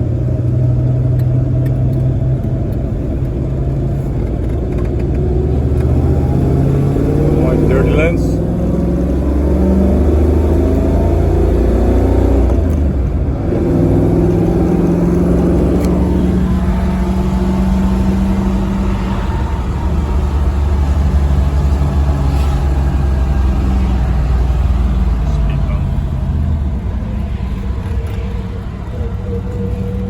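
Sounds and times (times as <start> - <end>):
engine pulling under load: 1.1 - 30.0.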